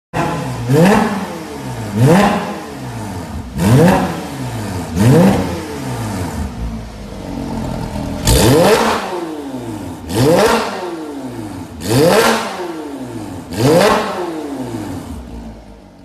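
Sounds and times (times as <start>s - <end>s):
car engine revving and idling: 0.2s - 16.0s.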